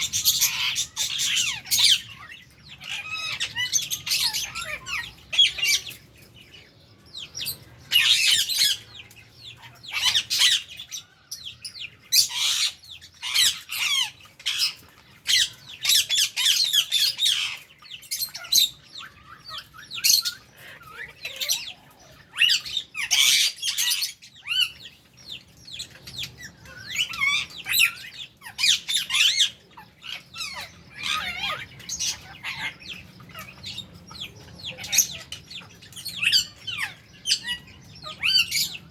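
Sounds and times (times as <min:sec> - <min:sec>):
lovebirds squawking: 0:00.0 - 0:38.9.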